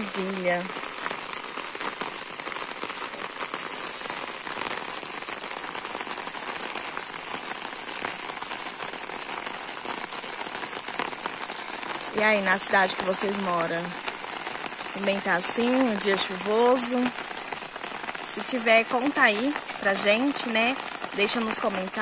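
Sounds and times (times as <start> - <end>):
rain falling on earth: 0.0 - 22.0.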